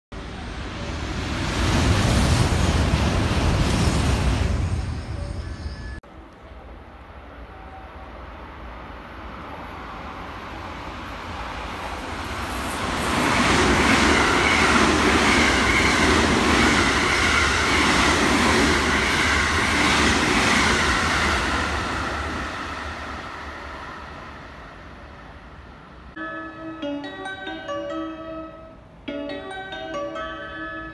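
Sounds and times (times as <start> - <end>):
electric train passing at speed: 0.1 - 30.9.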